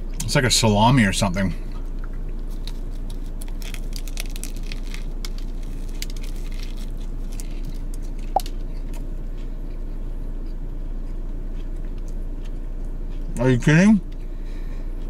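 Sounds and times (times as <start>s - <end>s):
chewing crusty bread: 1.8s - 15.0s.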